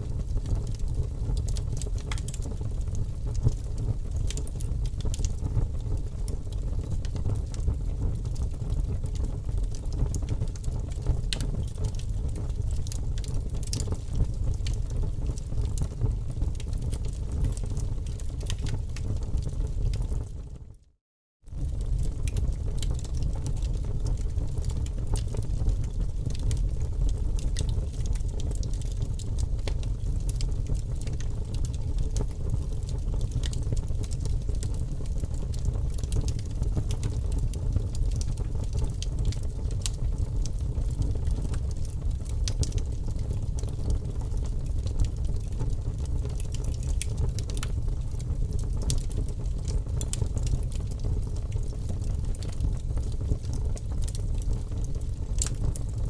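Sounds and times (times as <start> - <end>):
light crackles and ticks: 0.2 - 20.8, 21.5 - 56.0.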